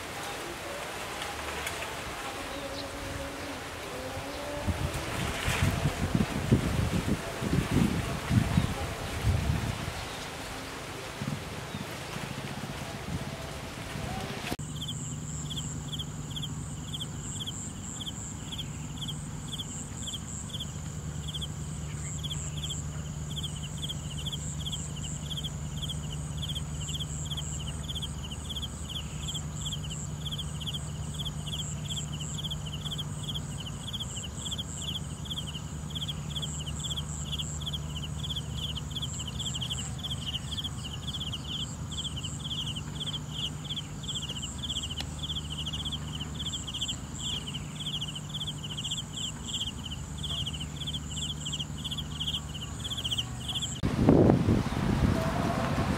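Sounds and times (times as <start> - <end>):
insects chirping: 0.0 - 55.9
low steady hum: 0.0 - 55.9.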